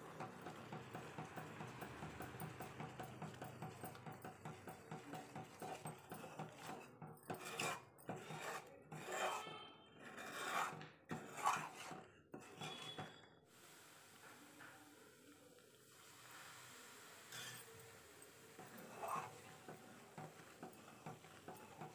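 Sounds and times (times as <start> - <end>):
spoon scraping and stirring batter: 0.2 - 13.4, 17.2 - 21.9.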